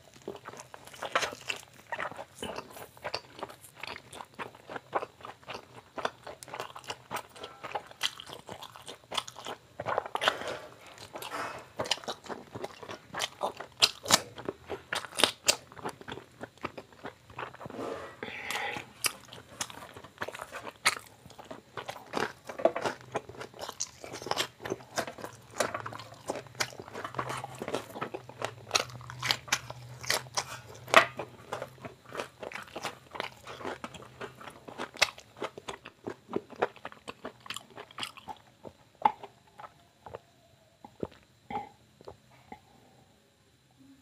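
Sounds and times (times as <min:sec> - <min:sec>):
person chewing and crunching food: 0:00.0 - 0:42.6.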